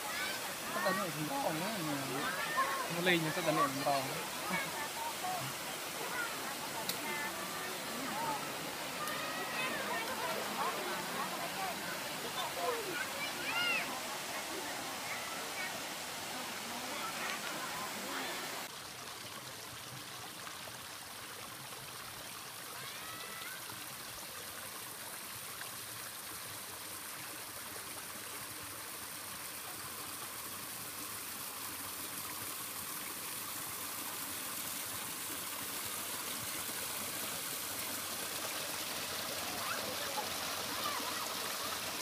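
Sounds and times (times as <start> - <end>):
stream splashing over rocks: 0.0 - 42.0.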